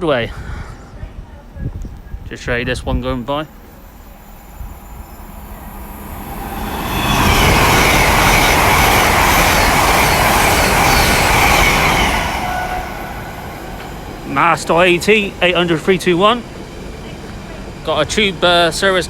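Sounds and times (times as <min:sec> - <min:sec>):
train passing through station: 0:00.0 - 0:19.0.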